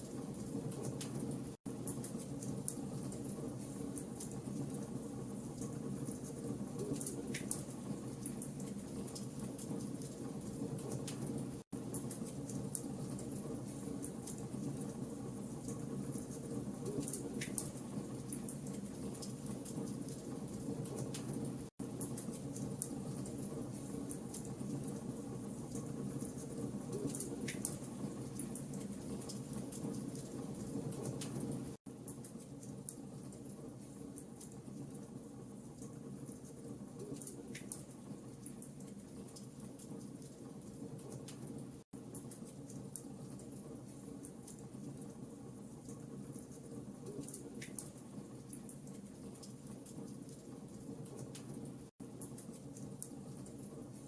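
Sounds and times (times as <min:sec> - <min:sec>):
wood fire crackling and popping: 0:00.0 - 0:35.1, 0:35.7 - 0:45.2, 0:45.8 - 0:53.8.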